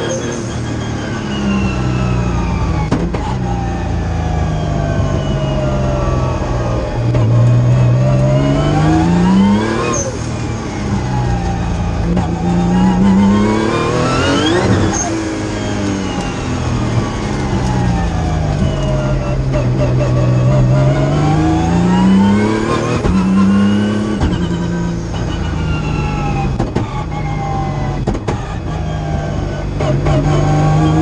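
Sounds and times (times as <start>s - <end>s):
race car engine revving: 0.0s - 26.2s, 27.2s - 31.0s.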